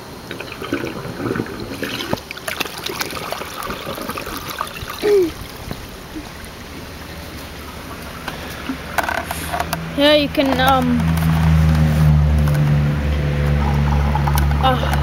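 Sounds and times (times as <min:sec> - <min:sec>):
water gurgling from drain pipe: 0:00.2 - 0:09.5, 0:11.4 - 0:15.0.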